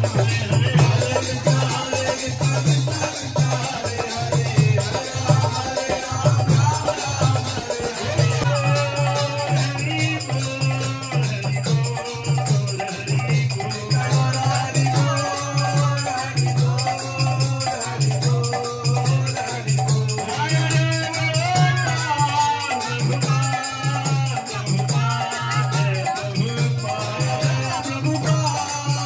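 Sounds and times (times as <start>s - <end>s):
drum steady beat: 0.0s - 29.0s
group singing: 0.0s - 29.0s
rattling hand percussion: 0.0s - 29.0s.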